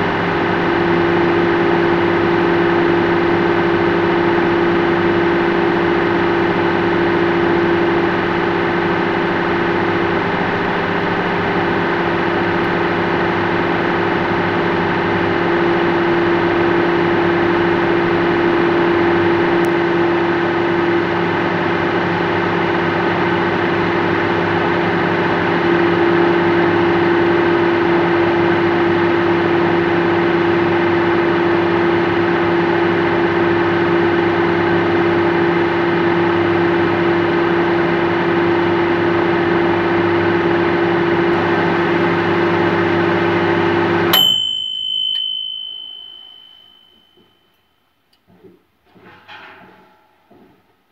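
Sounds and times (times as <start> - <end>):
microwave oven humming: 0.0 - 47.6.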